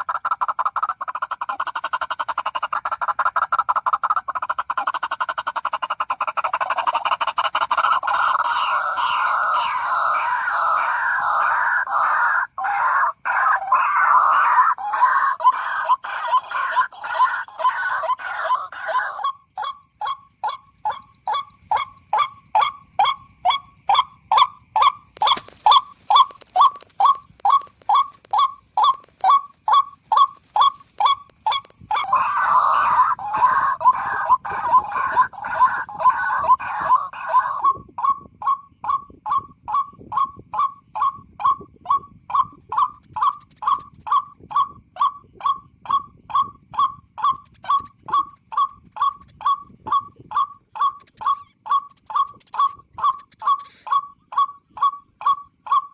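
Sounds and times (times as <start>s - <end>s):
waterhen harsh croaking calls: 0.0s - 55.9s.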